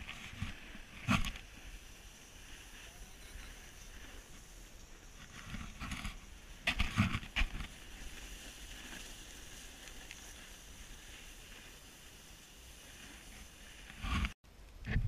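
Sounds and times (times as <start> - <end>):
snow hissing under skis: 0.0 - 14.4.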